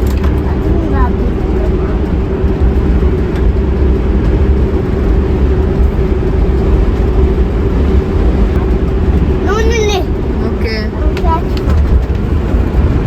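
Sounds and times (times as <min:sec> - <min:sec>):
constant hum: 0:00.0 - 0:13.0
van driving rumble from inside: 0:00.0 - 0:13.0.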